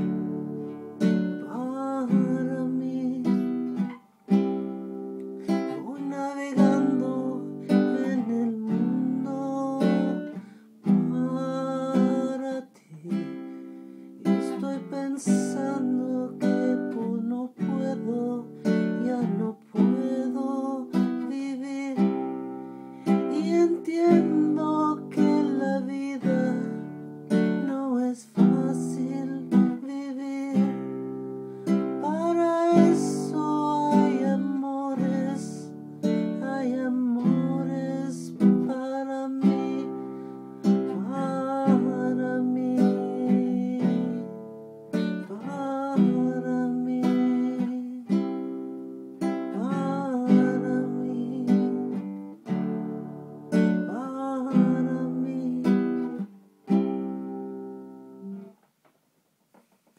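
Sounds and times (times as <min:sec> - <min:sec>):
acoustic guitar strumming chords: 0:00.0 - 0:58.7.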